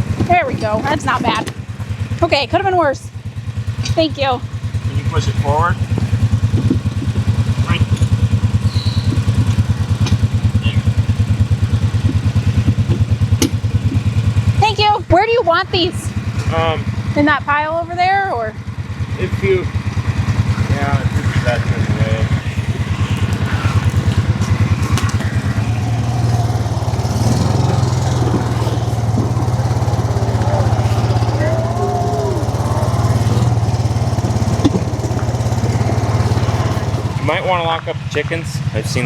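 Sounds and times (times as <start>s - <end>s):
four-wheeler engine idling: 0.0s - 39.0s.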